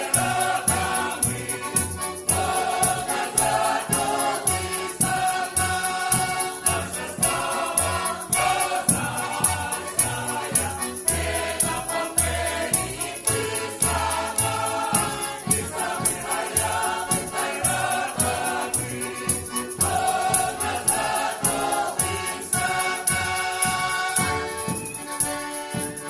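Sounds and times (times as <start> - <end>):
choir of mixed voices singing: 0.0 - 24.8
instrumental accompaniment with steady beat: 0.0 - 26.0.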